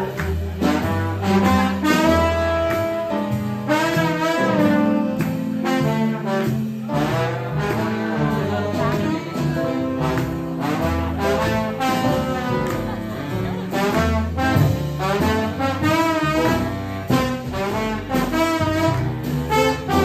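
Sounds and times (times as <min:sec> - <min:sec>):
bass line: 0:00.0 - 0:20.0
horn melody with vibrato: 0:00.0 - 0:20.0
piano: 0:00.0 - 0:20.0.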